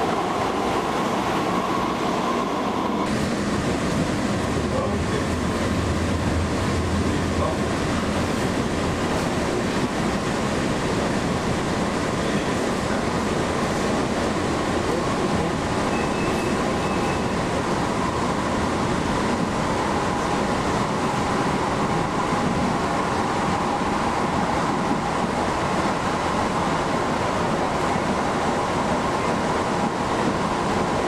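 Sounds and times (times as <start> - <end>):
rail car wheels rumbling: 0.0 - 31.0.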